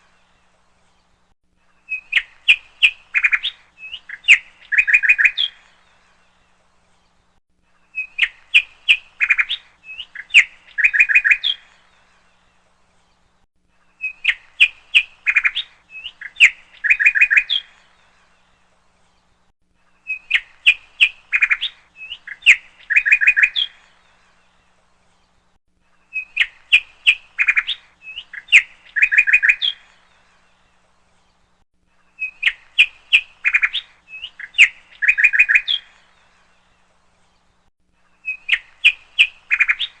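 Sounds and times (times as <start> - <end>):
bird chirps and trills: 0.0 - 7.2, 7.8 - 40.0.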